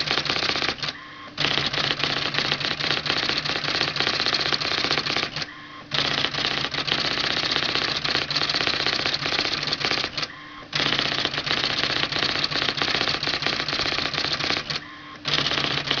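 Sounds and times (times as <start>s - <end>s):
typewriter character strikes: 0.0s - 16.0s.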